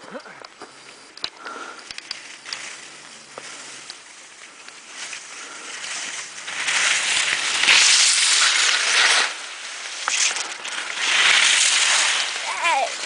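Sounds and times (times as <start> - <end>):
skis scraping through snow: 1.5 - 13.0.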